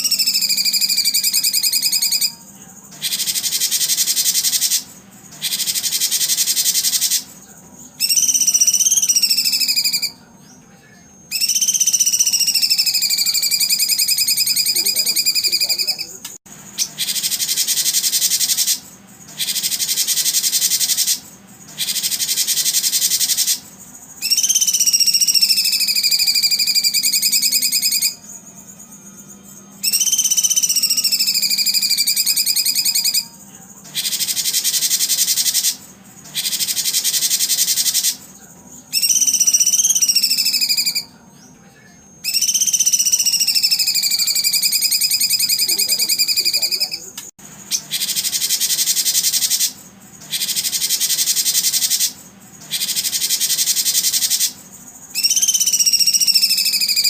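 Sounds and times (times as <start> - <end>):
songbird buzzy trills: 0.0 - 57.0.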